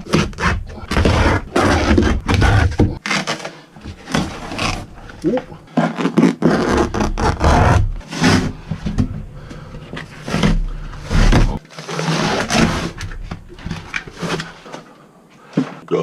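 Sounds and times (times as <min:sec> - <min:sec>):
scraping and tearing of fittings: 0:00.0 - 0:14.8.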